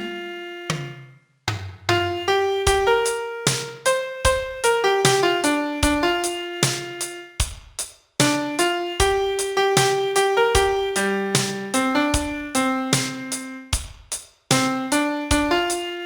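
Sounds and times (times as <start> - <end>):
piano melody: 0.0 - 0.9, 1.9 - 7.4, 8.2 - 13.8, 14.5 - 16.0.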